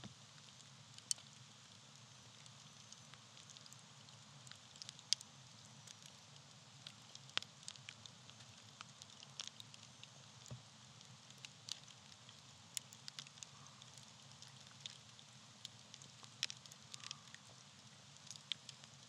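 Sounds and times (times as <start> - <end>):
faint steady fire hiss: 0.0 - 19.0
campfire crackling and popping: 0.4 - 19.0.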